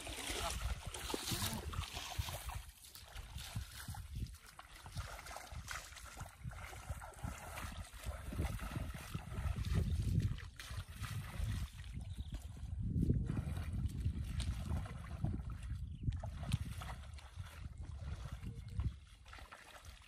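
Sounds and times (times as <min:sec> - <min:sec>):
bare feet splashing in water: 0:00.0 - 0:20.0.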